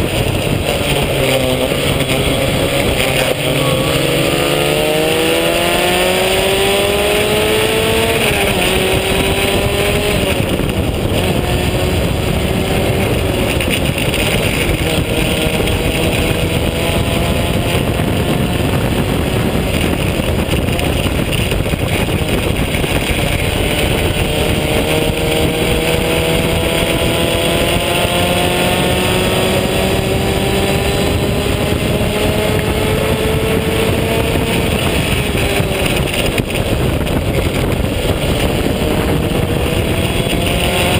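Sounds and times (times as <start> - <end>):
race car engine: 0.0 - 40.9
wind rushing: 0.0 - 40.9.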